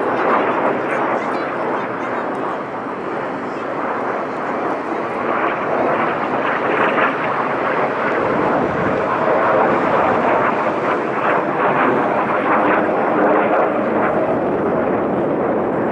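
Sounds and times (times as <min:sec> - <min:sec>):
jet engines roaring: 0:00.0 - 0:15.9.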